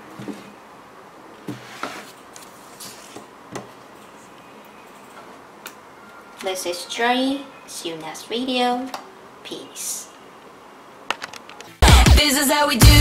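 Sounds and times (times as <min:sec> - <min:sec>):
faint room hiss: 0:00.0 - 0:12.8.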